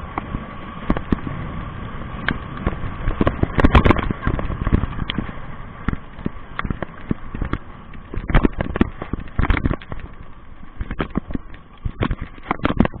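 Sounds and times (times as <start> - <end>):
bike knocks and rattles: 0.0 - 1.4, 2.2 - 13.0.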